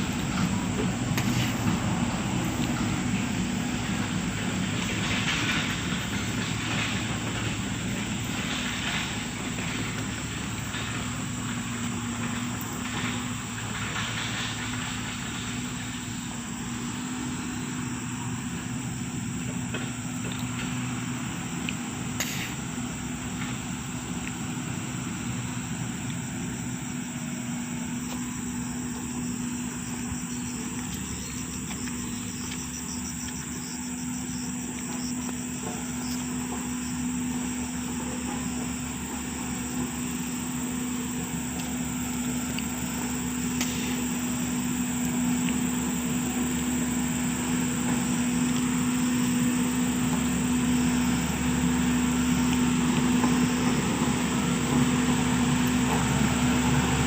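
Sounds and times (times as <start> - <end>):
heavy machinery engine humming: 0.0 - 57.0.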